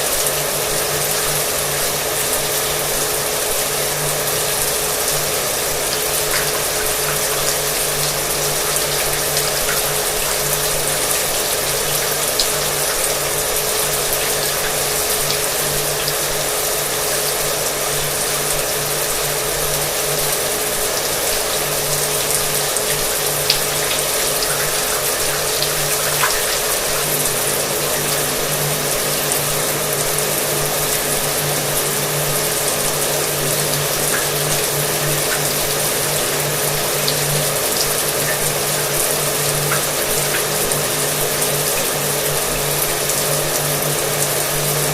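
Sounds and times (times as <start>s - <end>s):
shower water running: 0.0s - 44.9s.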